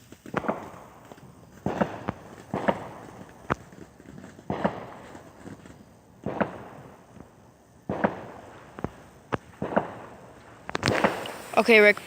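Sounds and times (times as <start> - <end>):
small fireworks popping: 0.0 - 12.0.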